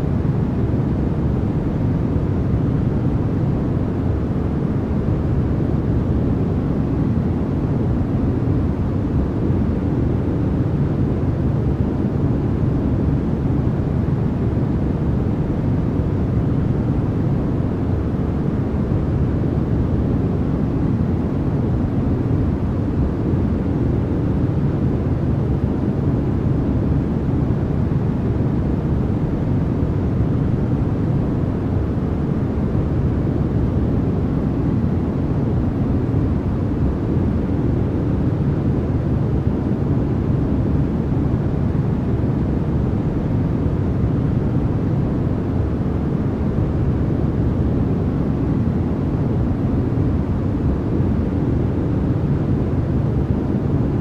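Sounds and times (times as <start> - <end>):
deep white noise rush: 0.0 - 54.0.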